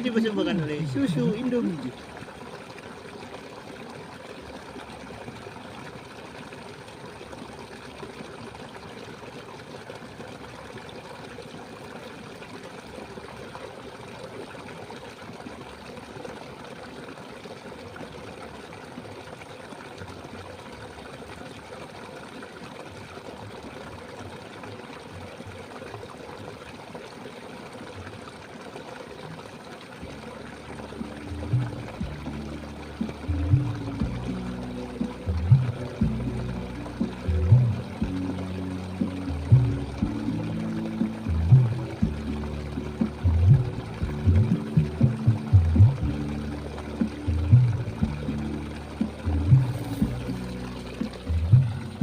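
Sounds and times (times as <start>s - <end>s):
stream water running: 0.0s - 52.0s.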